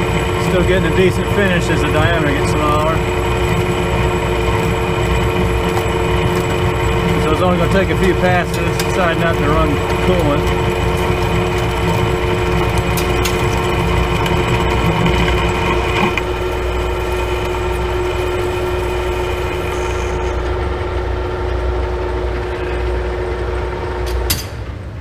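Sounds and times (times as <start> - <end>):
lathe gear whine: 0.0 - 25.0.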